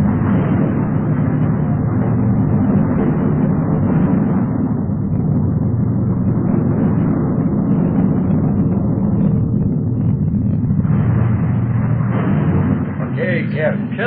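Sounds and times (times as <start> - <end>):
loud low rumble: 0.0 - 14.0.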